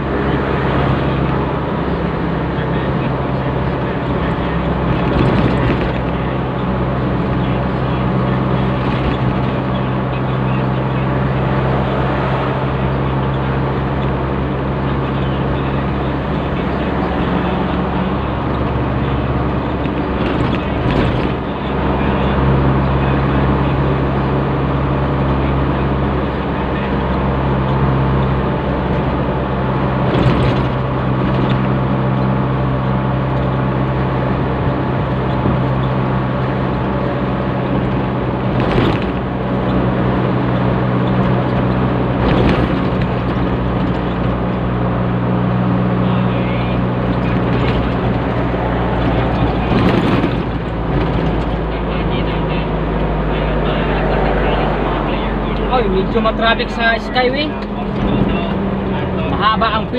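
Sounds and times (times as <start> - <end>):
road noise: 0.0 - 59.9
vehicle engine hum: 0.0 - 59.9.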